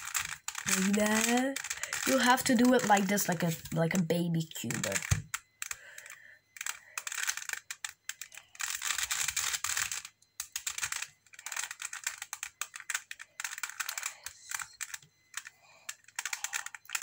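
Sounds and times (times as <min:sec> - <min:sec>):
puzzle cube clicking: 0:00.1 - 0:04.0, 0:04.6 - 0:17.0.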